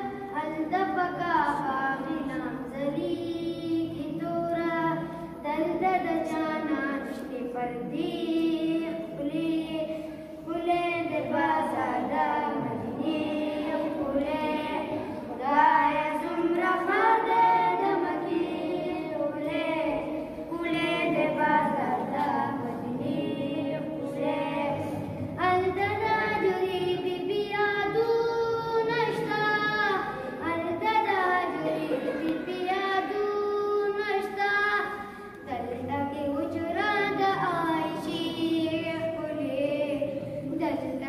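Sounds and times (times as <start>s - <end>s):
boys singing unaccompanied: 0.0s - 41.0s.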